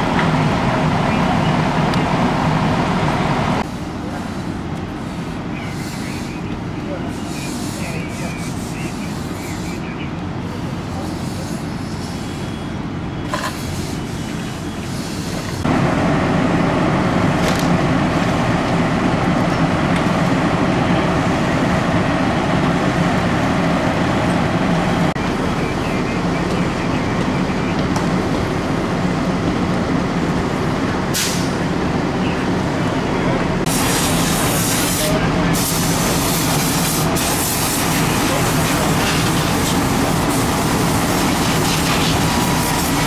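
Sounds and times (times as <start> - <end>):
fire engine drone: 0.0 - 43.0.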